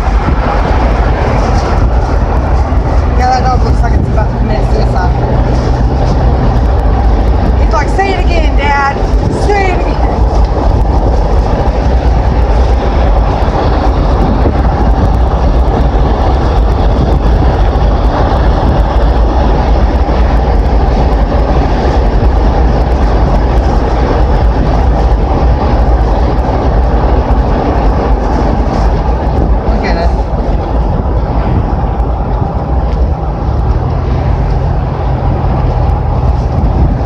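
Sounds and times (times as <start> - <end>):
road and wind noise: 0.0 - 37.0.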